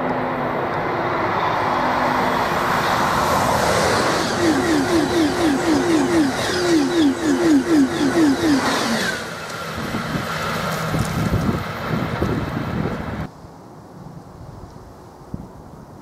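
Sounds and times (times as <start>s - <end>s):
electric train passing: 0.0s - 13.3s.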